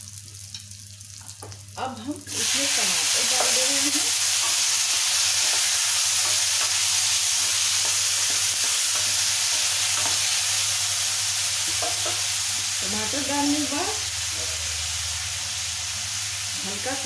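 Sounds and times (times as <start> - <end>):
tomatoes sizzling in hot oil: 0.0 - 17.0.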